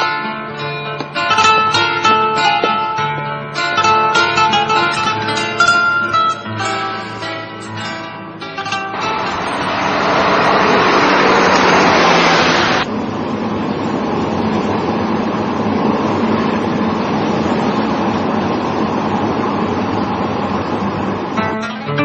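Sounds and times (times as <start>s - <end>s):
taxi driving by: 3.6s - 21.4s.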